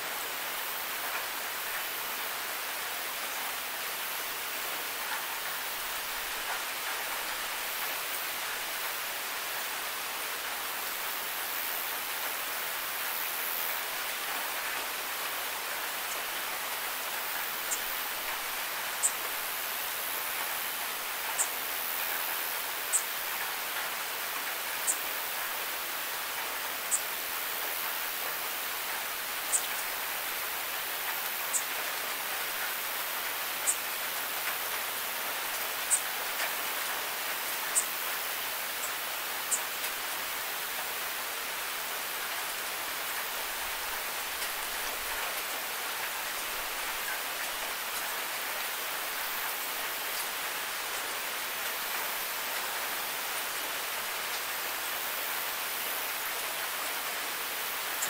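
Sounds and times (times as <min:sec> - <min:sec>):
rain on hard surface: 0:00.0 - 0:58.0.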